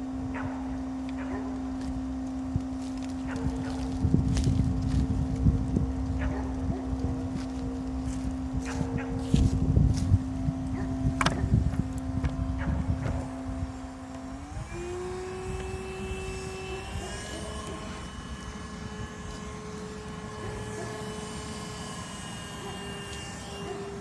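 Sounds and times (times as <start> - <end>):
vacuum motor whining: 0.0 - 24.0.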